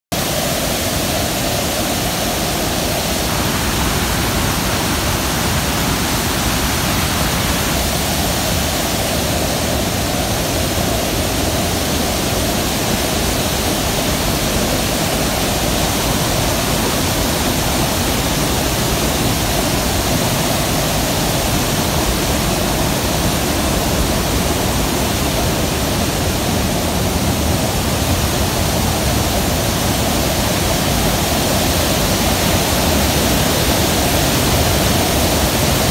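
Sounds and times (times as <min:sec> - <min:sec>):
river rushing over waterfall: 0:00.1 - 0:35.9.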